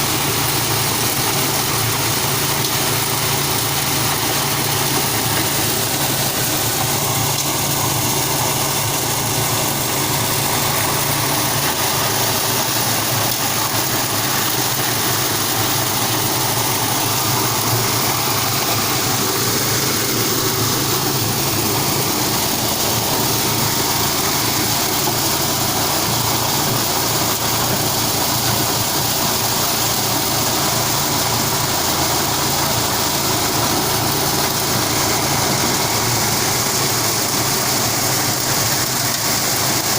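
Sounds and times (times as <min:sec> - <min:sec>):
dense rushing noise: 0:00.0 - 0:39.9.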